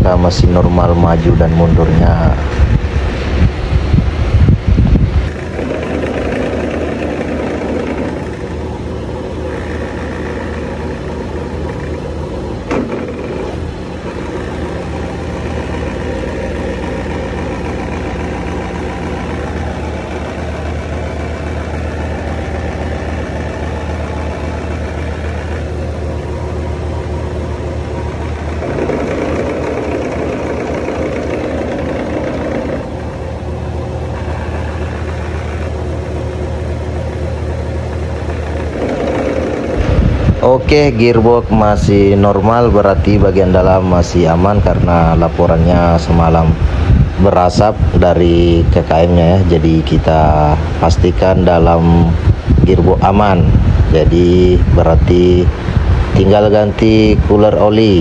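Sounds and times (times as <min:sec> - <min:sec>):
ship engine running: 0:00.0 - 0:58.0.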